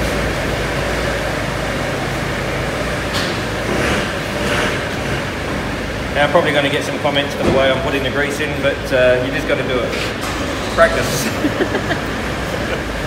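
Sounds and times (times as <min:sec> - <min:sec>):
fans hissing and humming: 0:00.0 - 0:13.0.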